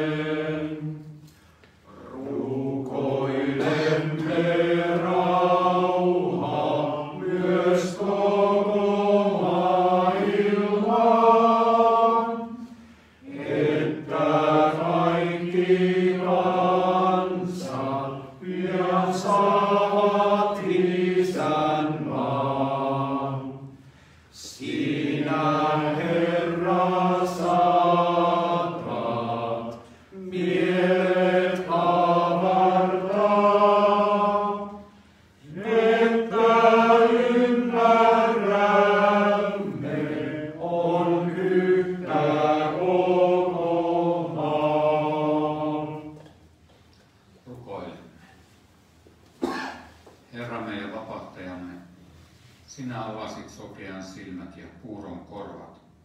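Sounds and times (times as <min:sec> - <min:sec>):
male choir singing a hymn: 0:00.0 - 0:01.2, 0:01.9 - 0:23.8, 0:24.4 - 0:46.3.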